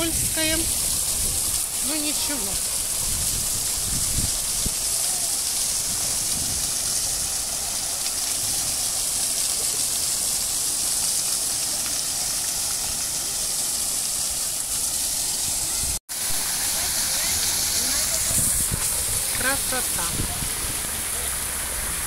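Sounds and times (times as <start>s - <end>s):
fountain water splashing into basin: 0.0s - 22.0s.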